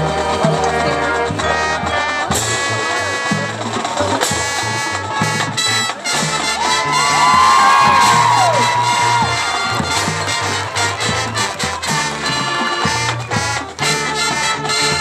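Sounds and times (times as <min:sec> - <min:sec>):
marching band brass playing: 0:00.0 - 0:15.0.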